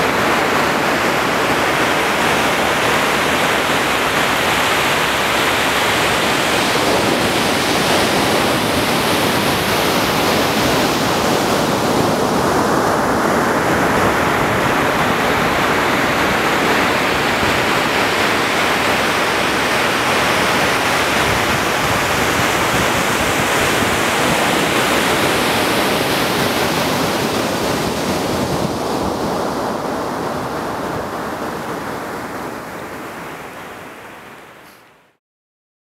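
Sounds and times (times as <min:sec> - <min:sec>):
ocean surf breaking on beach: 0:00.0 - 0:35.2.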